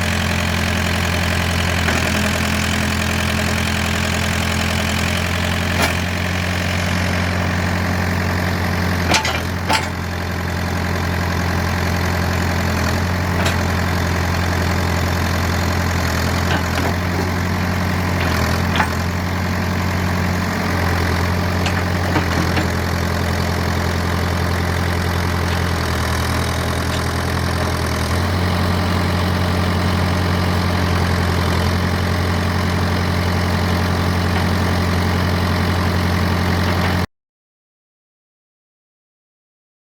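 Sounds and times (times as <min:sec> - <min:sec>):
diesel engine idling: 0:00.0 - 0:37.1.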